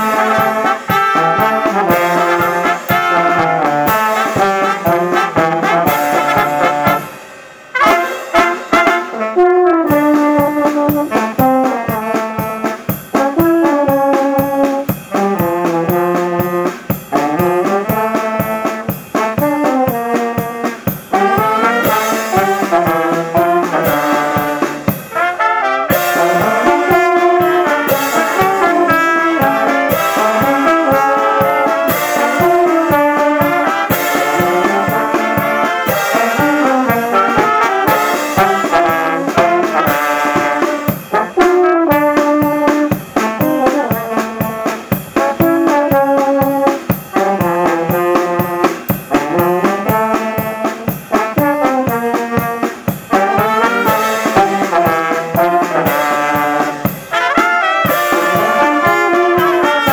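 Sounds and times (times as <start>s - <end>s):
brass band playing: 0.0s - 59.9s
steady drum beat: 0.0s - 59.9s.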